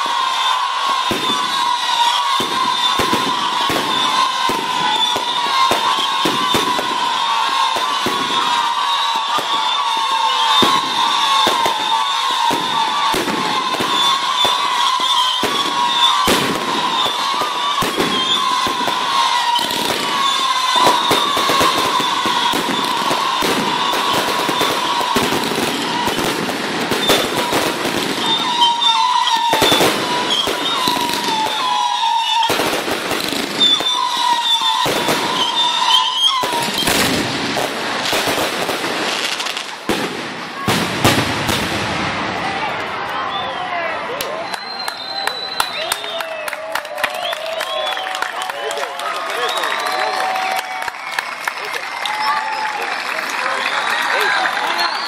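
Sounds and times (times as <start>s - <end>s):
fireworks bangs and crackles: 0.0s - 55.0s
wavering whistle: 0.1s - 26.3s, 26.9s - 32.7s, 33.6s - 37.0s, 43.1s - 55.0s.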